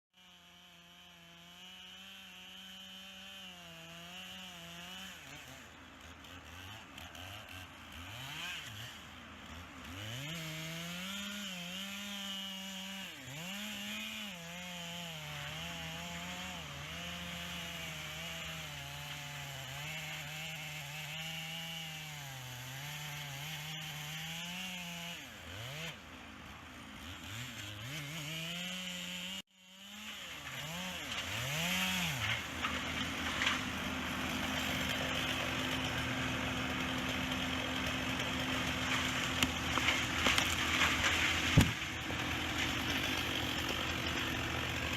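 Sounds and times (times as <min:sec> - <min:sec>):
chainsaw cutting wood: 0:00.2 - 0:44.9.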